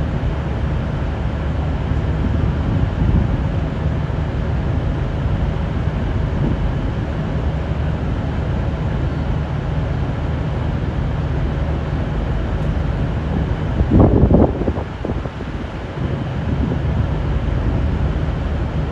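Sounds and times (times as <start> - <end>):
diesel train engines rumbling: 0.0 - 18.9.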